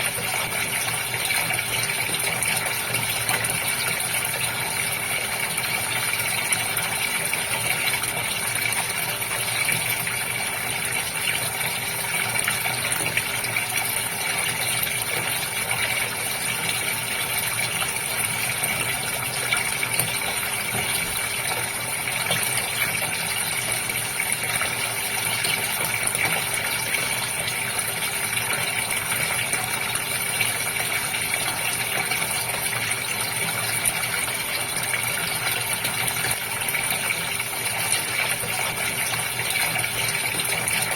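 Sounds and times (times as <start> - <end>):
pump humming: 0.0 - 40.9
water gushing in fish tank: 0.0 - 40.9.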